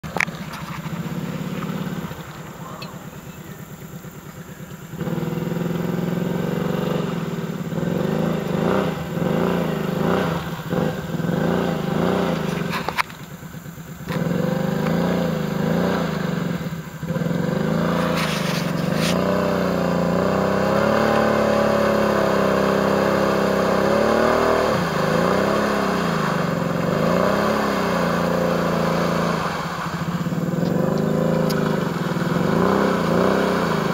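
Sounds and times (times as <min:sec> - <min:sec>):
atv engine revving: 0:00.0 - 0:33.9.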